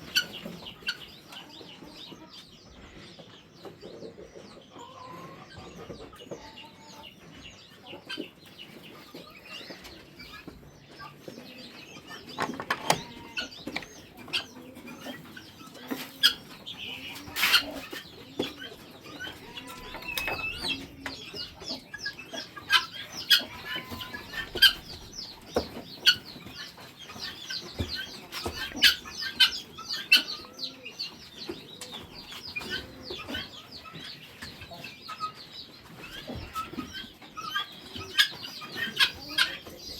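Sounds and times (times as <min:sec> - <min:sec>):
chickens clucking and chirping: 0:00.0 - 0:39.9.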